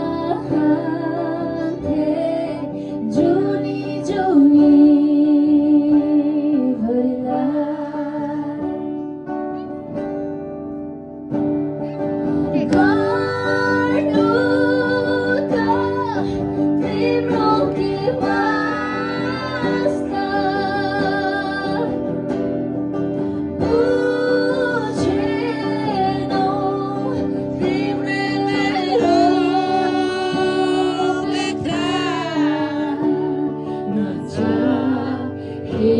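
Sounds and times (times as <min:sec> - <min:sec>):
person singing: 0:00.0 - 0:09.8, 0:11.8 - 0:35.9
acoustic guitar: 0:00.0 - 0:35.9.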